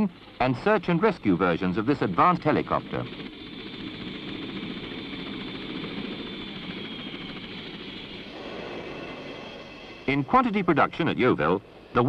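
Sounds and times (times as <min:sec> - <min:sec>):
helicopter turbine whine: 0:00.0 - 0:12.0
rotor and engine noise: 0:00.0 - 0:12.0.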